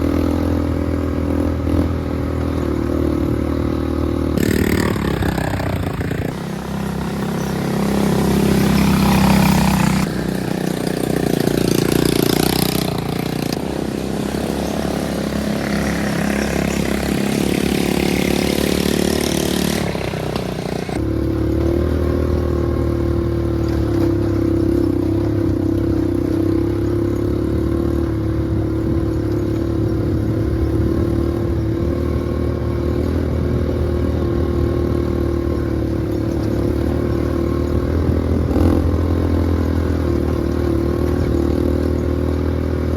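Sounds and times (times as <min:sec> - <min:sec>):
off-road vehicle engine running: 0:00.0 - 0:42.9.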